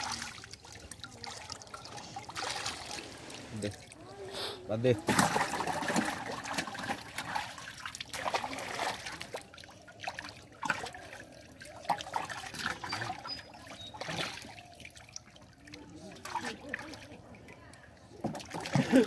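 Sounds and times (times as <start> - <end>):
fish splashing in water: 0.0 - 4.0, 4.9 - 17.4, 18.2 - 19.0
water trickling: 0.0 - 19.0.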